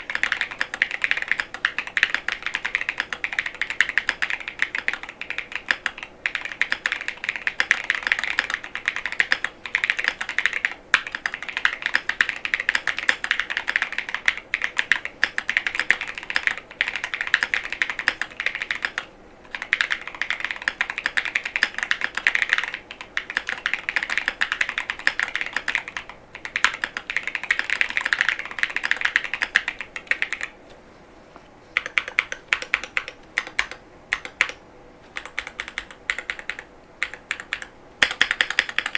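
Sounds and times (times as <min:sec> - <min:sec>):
mechanical keyboard typing: 0:00.0 - 0:30.6, 0:31.8 - 0:34.6, 0:35.2 - 0:38.9.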